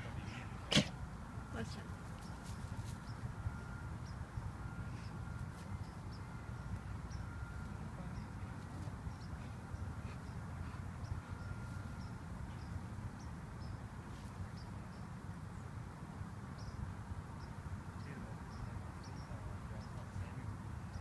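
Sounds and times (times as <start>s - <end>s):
low outdoor rumble: 0.0s - 21.0s
small birds chirping: 1.6s - 15.8s, 16.5s - 21.0s.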